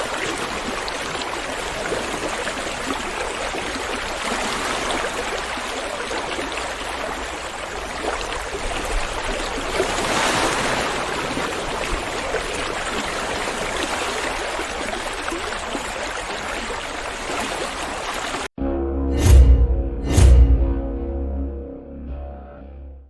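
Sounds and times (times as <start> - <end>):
river water rushing: 0.0 - 18.5.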